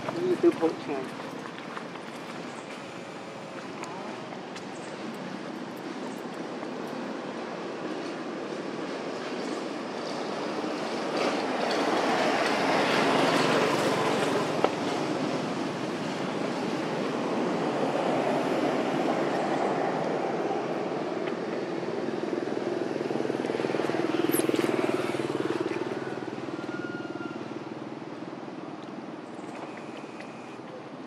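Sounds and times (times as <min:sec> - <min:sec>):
distant traffic rumble: 0:00.0 - 0:31.0.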